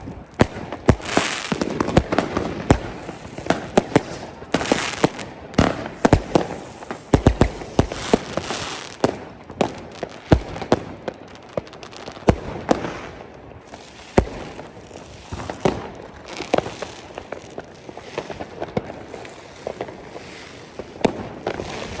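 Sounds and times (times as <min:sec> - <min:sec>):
firecrackers crackling: 0:00.0 - 0:22.0
firework bangs: 0:00.0 - 0:22.0.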